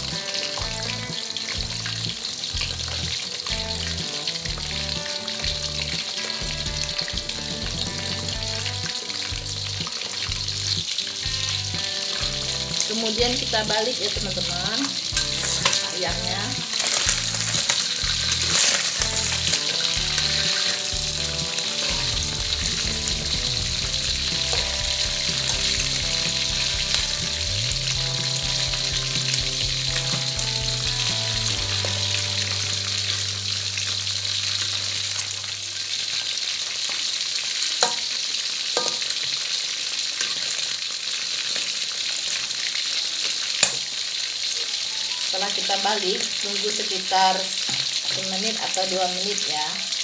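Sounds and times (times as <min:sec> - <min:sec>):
spoon and spatula turning food: 0:00.0 - 0:46.0, 0:47.6 - 0:48.9
chicken deep-frying sizzle: 0:00.0 - 0:50.0.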